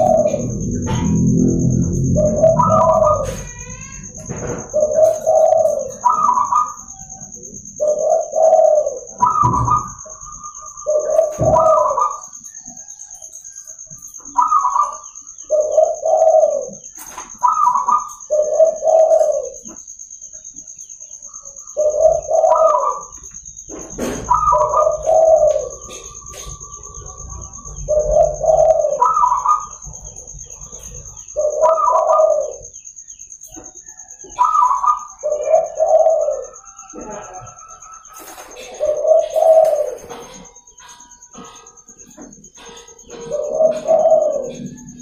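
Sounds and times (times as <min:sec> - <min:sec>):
dove cooing: 0:00.0 - 0:45.0.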